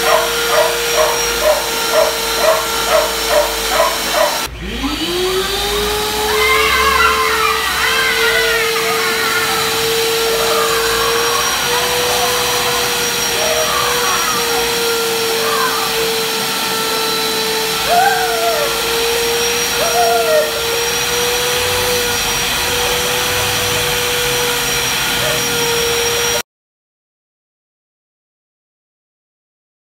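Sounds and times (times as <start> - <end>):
vocal cries: 0.0 - 4.5, 5.4 - 25.6
vacuum cleaner running: 0.0 - 26.4.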